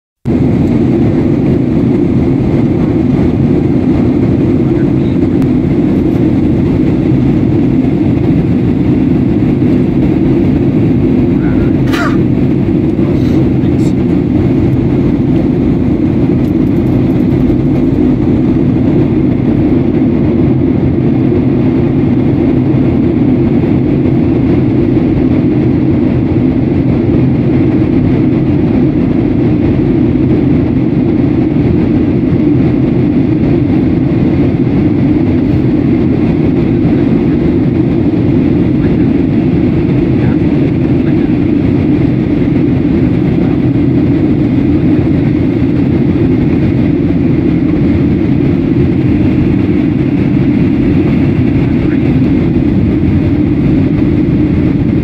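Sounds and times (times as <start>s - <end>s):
jet engines rumbling in cabin: 0.2s - 55.0s.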